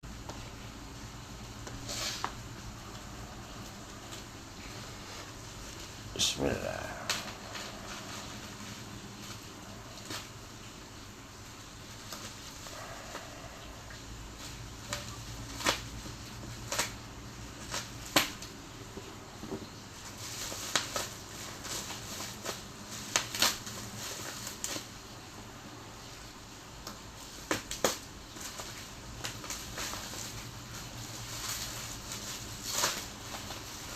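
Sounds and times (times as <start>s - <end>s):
packaging rustling: 1.6s - 11.0s, 11.7s - 25.0s, 27.2s - 33.9s.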